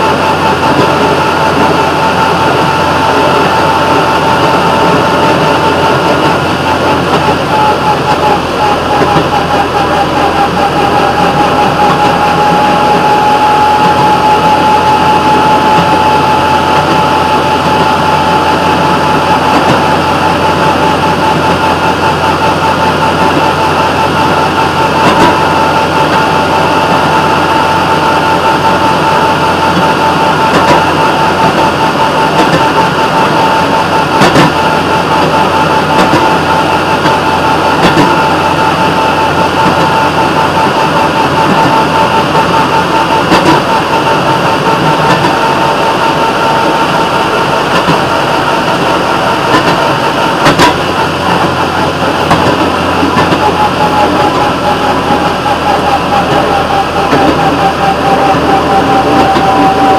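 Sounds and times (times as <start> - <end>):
constant whining tone: 0.0 - 59.9
rail motorcar engine and wheels: 0.0 - 59.9.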